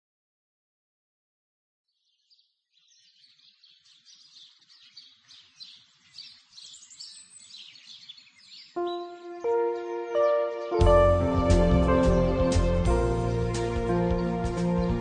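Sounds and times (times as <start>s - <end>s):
chorus of birds chirping: 1.9s - 15.0s.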